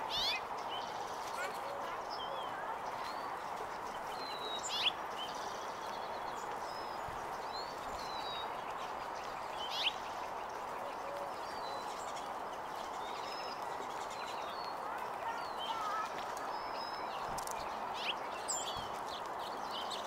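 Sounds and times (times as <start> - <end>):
sharp sweeping bird calls: 0.0 - 20.0
sparrows chipping and whistling: 0.0 - 20.0.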